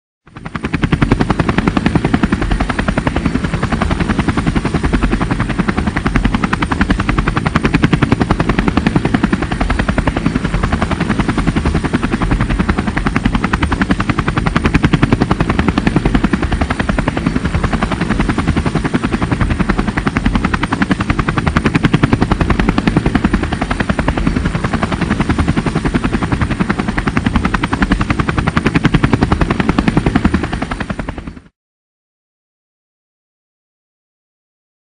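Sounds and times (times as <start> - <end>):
helicopter rotor blades chopping: 0.3 - 31.5.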